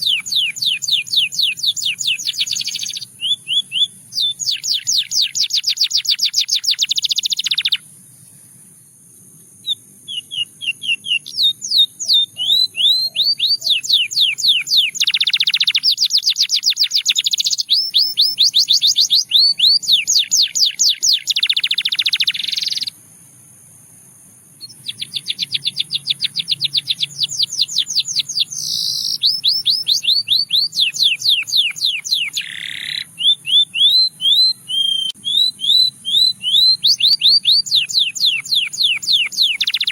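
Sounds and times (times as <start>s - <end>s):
canary singing trilled phrases: 0.0s - 7.9s, 9.6s - 23.0s, 24.6s - 39.9s.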